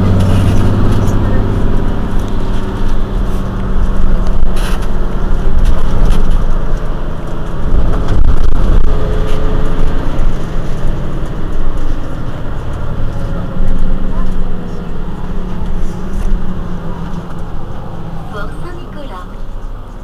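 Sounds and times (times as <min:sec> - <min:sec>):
diesel bus engine idling: 0:00.0 - 0:20.0.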